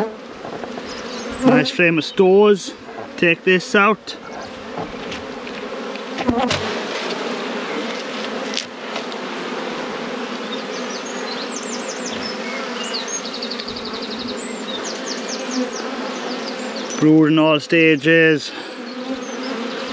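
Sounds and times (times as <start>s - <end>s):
honeybees buzzing: 0.0s - 19.9s.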